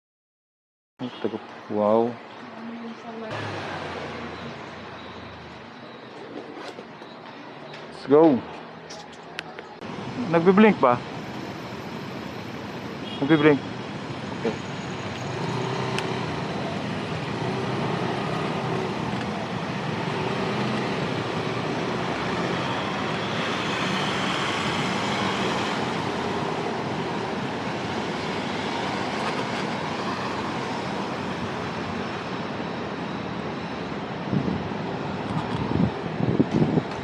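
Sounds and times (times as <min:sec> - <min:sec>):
wind and road noise: 0:01.0 - 0:37.0.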